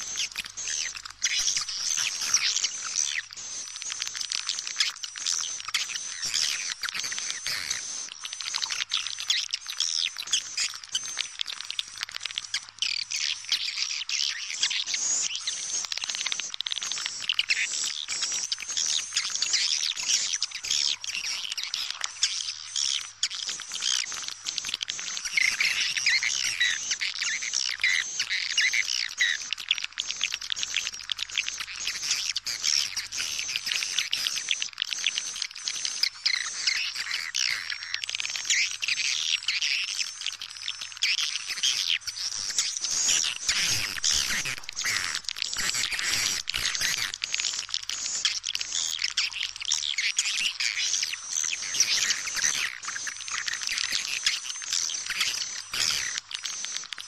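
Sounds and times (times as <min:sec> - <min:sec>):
swiftlets chirping and twittering: 0:00.0 - 0:11.6, 0:12.2 - 0:57.0.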